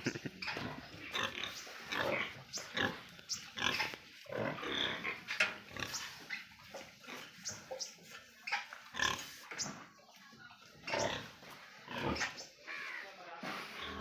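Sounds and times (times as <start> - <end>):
pigs grunting: 0.0 - 7.4, 8.6 - 9.9, 10.8 - 12.9, 13.5 - 14.0.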